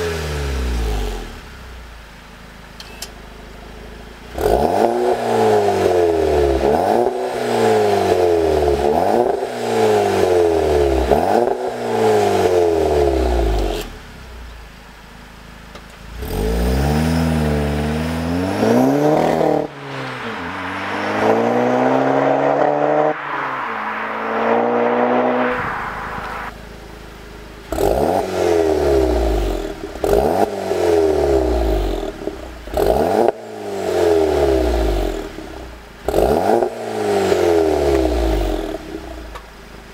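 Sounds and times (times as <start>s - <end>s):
car engine revving: 3.6s - 14.4s, 16.1s - 39.4s
car accelerating away: 4.3s - 13.9s, 16.1s - 26.9s, 27.6s - 39.2s.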